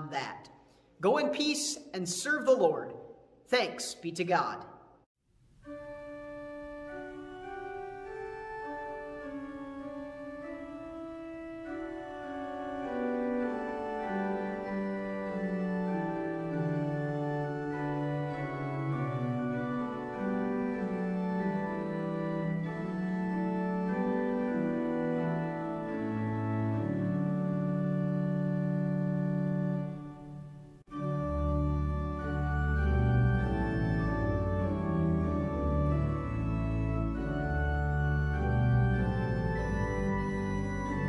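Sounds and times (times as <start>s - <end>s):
organ playing slow chords: 5.6s - 41.0s.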